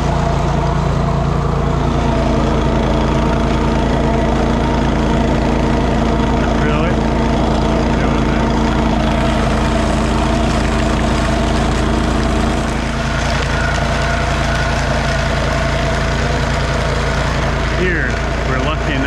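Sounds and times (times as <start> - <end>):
snowblower engine running: 0.0 - 19.0.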